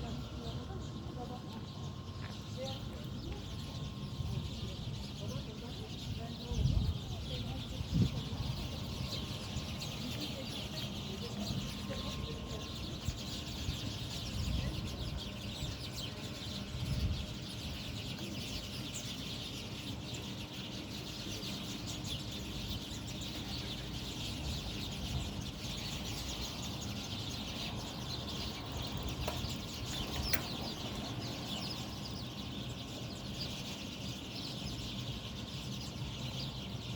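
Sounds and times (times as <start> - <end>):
flock of birds chirping: 0.0 - 36.9.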